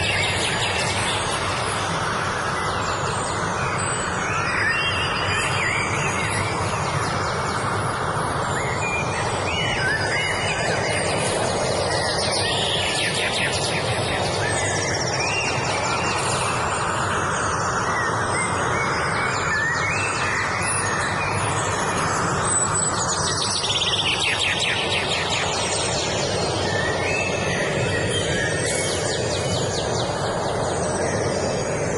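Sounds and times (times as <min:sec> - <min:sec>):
songbirds singing: 0:00.0 - 0:31.9
steady rushing background noise: 0:00.0 - 0:31.9.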